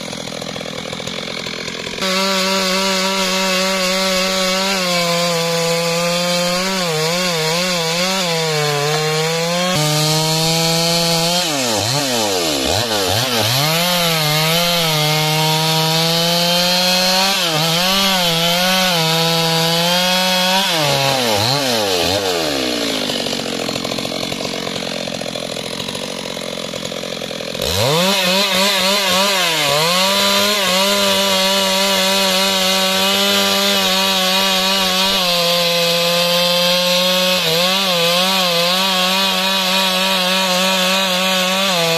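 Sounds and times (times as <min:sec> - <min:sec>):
chainsaw cutting log: 0:00.0 - 0:41.9.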